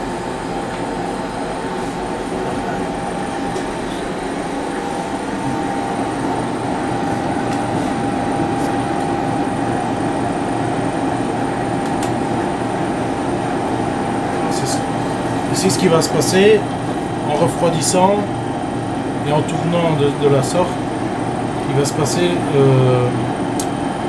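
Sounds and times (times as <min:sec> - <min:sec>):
ice cream freezer whine: 0:00.0 - 0:24.0.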